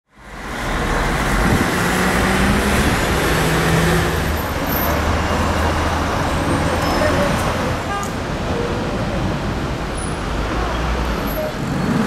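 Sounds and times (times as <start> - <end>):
street traffic engine drone: 0.1 - 12.0.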